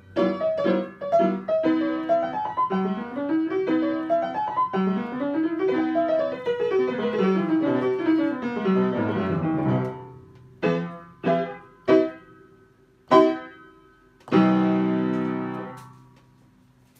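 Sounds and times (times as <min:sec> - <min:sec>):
upright piano playing: 0:00.0 - 0:16.0.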